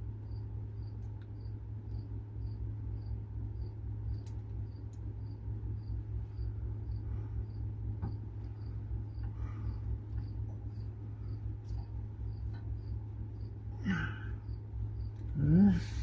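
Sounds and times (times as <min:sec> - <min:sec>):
cricket chirping: 0:00.0 - 0:16.0
low steady hum: 0:00.0 - 0:16.0.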